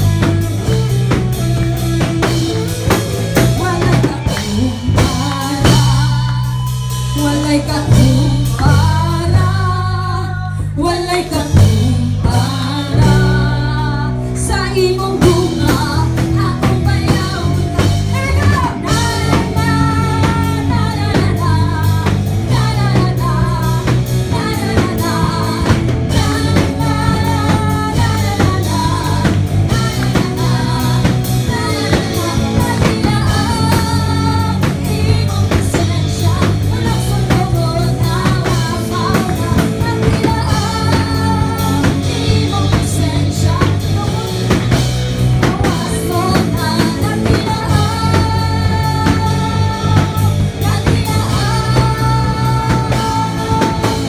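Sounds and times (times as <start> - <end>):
instrumental accompaniment: 0.0 - 54.0
woman singing into microphone: 2.0 - 54.0.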